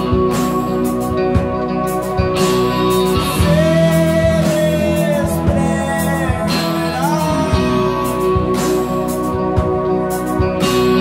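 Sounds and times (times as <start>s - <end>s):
live rock band music: 0.0s - 11.0s.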